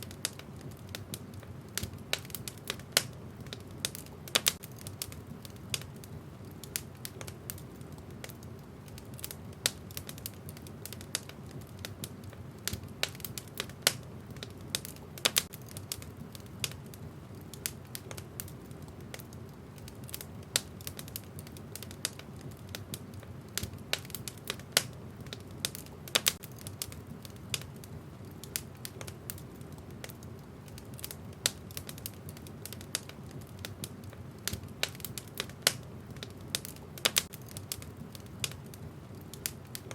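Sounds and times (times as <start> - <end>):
fire low rumble: 0.0 - 39.9
logs crackling and popping: 0.0 - 39.9.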